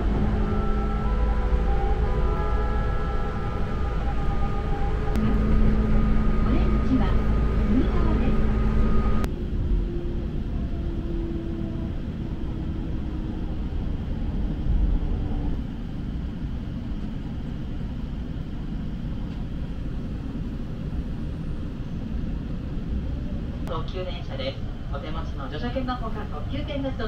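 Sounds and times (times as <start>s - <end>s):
low train hum: 0.0s - 27.0s
train interior rumble: 0.0s - 27.0s.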